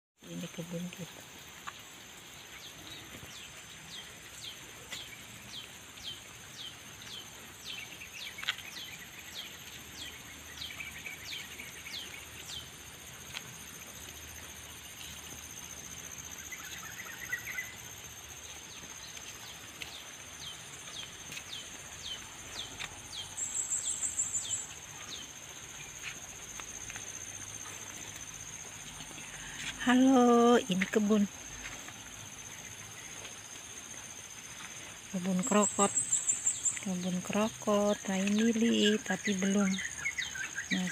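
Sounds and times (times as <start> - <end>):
insects droning: 0.2 - 40.9.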